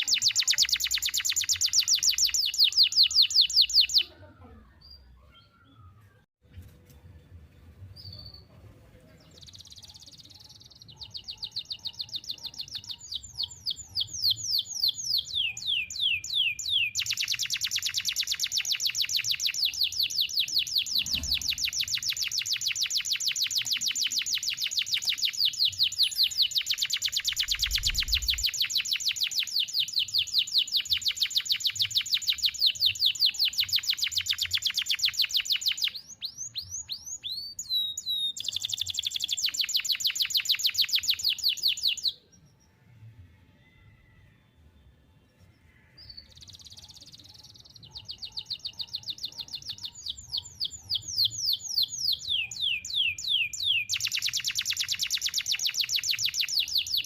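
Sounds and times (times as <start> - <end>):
canary singing trills: 0.0 - 6.2, 9.2 - 42.8, 45.4 - 57.0.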